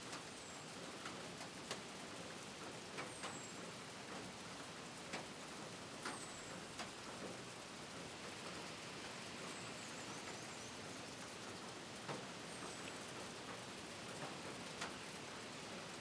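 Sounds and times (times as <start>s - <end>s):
light rain hissing: 0.0s - 16.0s
raindrops ticking: 0.1s - 16.0s.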